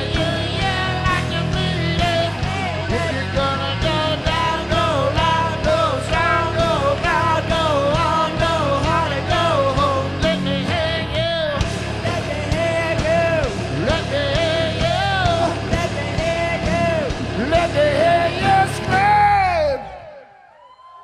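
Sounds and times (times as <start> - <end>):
heavy metal band playing: 0.0 - 20.1.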